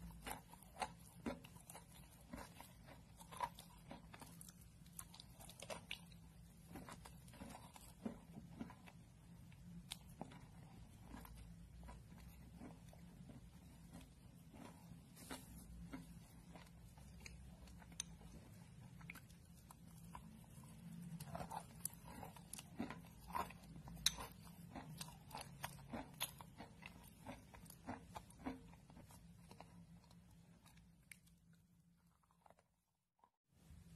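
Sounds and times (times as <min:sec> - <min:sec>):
chewing and crunching: 0:00.0 - 0:32.9.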